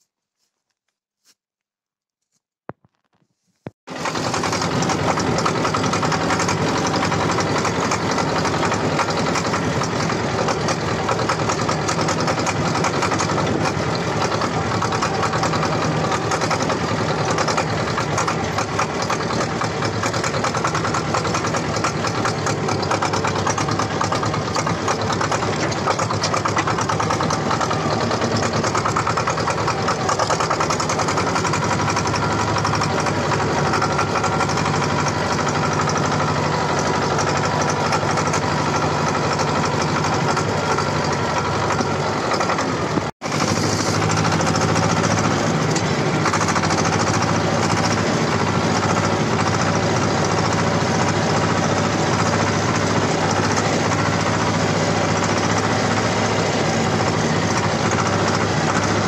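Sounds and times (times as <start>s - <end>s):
tractor diesel engine running: 2.8s - 59.0s.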